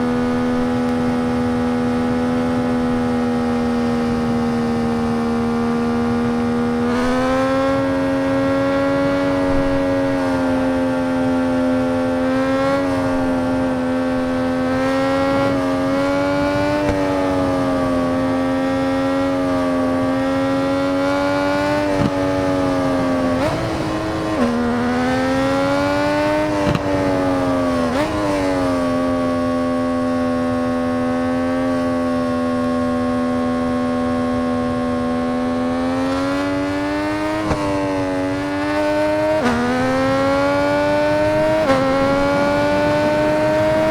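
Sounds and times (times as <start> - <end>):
motorcycle engine running high: 0.0 - 43.9.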